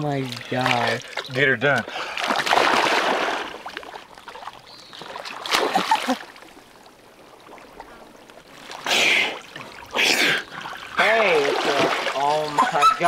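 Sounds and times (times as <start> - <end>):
muddy water sloshing and splashing: 0.0 - 13.0.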